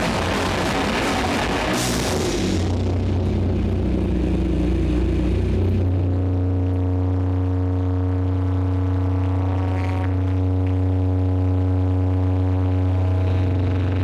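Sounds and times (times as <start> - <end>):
amplified metal drone: 0.0 - 14.0.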